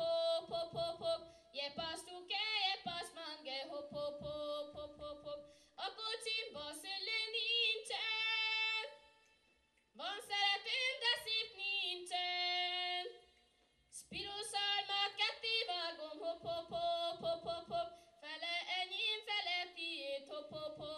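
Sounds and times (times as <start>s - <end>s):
woman singing unaccompanied: 0.0s - 9.2s, 10.0s - 13.2s, 13.9s - 20.9s.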